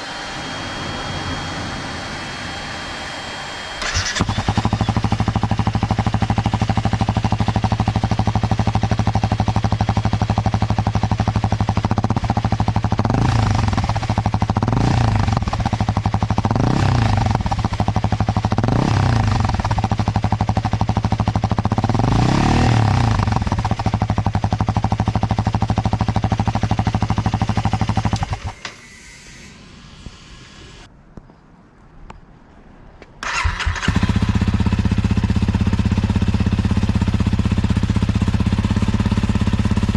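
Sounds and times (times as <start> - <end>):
motorcycle engine idling and revving: 0.0 - 30.9, 33.2 - 39.9.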